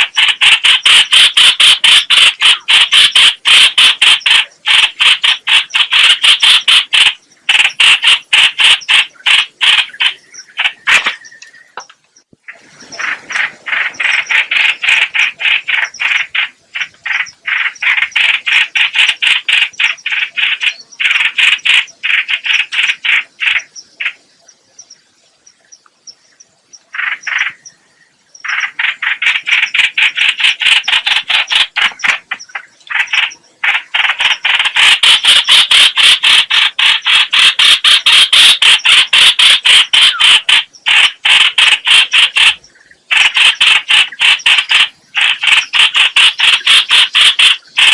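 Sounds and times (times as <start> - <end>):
bird harsh rasping calls: 0.0 - 11.9, 12.5 - 24.3, 26.9 - 27.8, 28.4 - 47.9.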